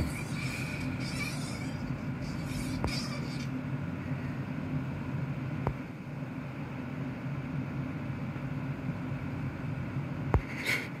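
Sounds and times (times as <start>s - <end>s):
steady low hum with hiss: 0.0s - 11.0s.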